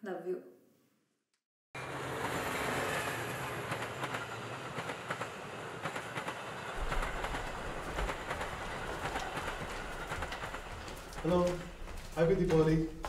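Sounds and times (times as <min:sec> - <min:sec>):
train rushing noise: 0:01.8 - 0:12.9
train wheels clacking on rails: 0:01.9 - 0:13.0.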